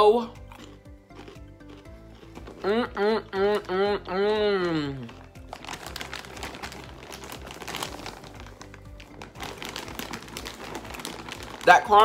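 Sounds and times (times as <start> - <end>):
background music: 0.0 - 12.0
popcorn crunching: 0.0 - 12.0.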